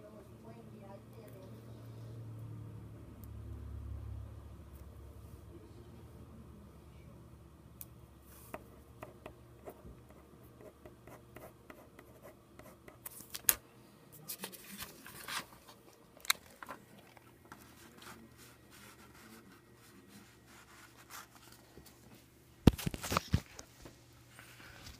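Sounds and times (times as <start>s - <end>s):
faint low hum: 0.0s - 24.9s.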